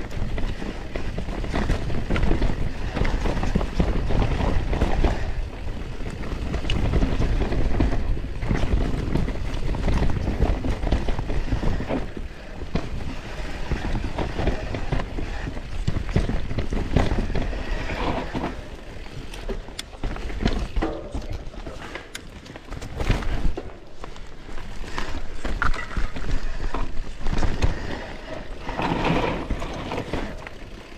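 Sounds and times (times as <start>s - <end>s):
bike knocks and rattles: 0.0s - 30.9s
tyres rolling on dirt and rock: 0.0s - 30.9s.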